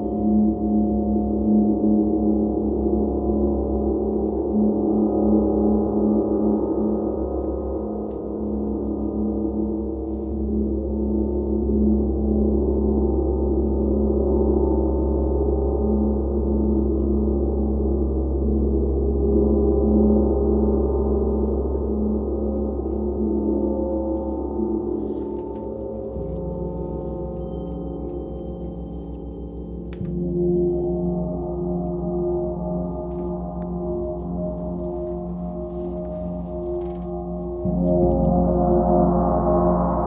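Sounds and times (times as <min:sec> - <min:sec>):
pulsing low hum: 0:00.0 - 0:40.0.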